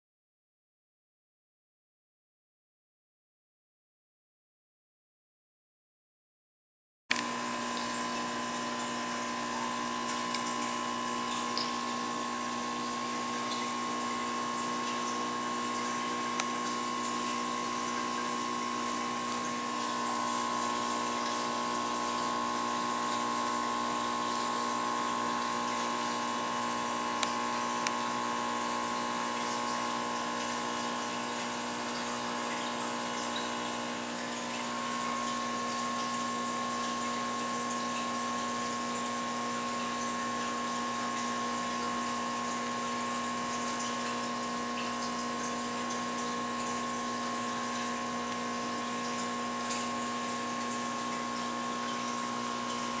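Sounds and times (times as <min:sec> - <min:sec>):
filter pump humming: 0:07.1 - 0:53.0.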